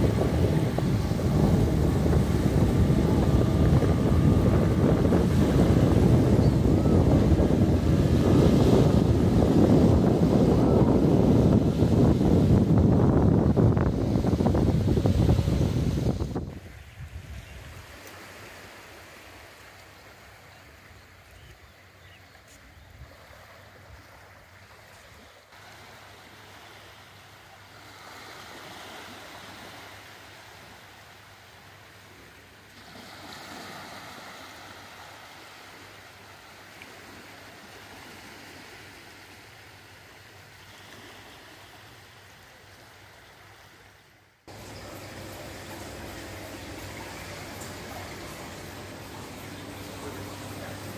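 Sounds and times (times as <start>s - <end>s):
sea waves washing in: 0.0s - 20.9s, 22.5s - 50.9s.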